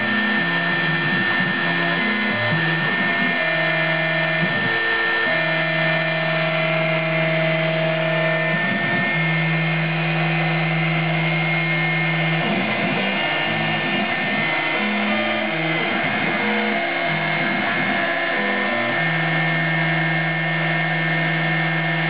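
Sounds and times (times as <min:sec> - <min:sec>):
rotary tool high whine: 0:00.0 - 0:22.0.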